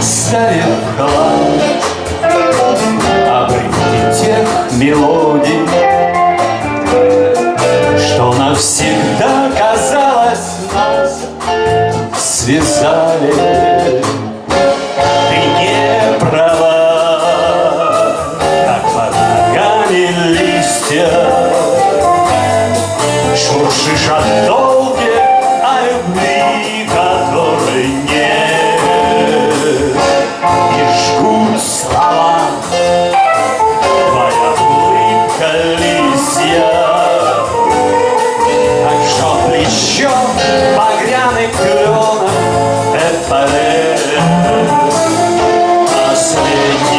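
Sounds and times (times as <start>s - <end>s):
lead guitar melody: 0.0s - 46.9s
live blues band playing: 0.0s - 46.9s
person singing: 0.0s - 46.9s.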